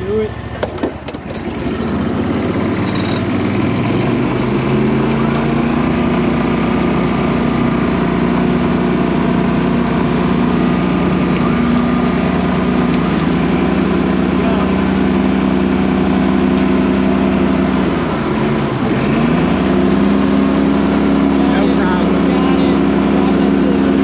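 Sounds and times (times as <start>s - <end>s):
small boat motor running fast: 0.0s - 24.0s.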